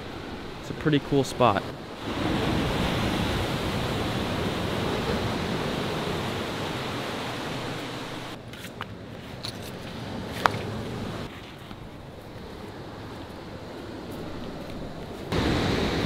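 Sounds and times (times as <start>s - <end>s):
ocean surf breaking: 0.0s - 8.4s, 9.8s - 16.0s.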